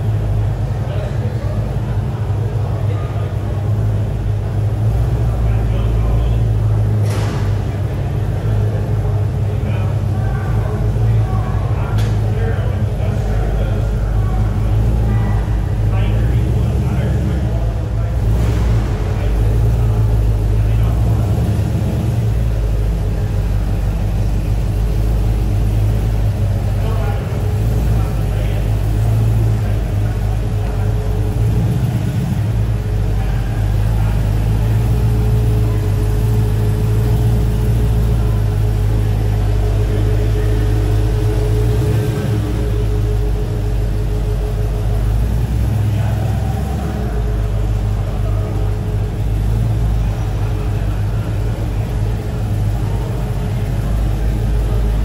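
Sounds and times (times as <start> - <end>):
vehicle engine low rumble: 0.0 - 55.0.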